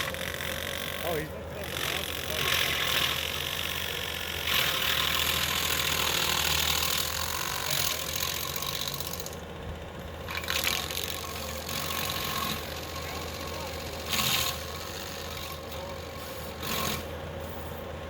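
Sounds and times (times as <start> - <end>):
stump grinder rushing noise: 0.0 - 17.9
skid steer engine running: 0.0 - 18.0.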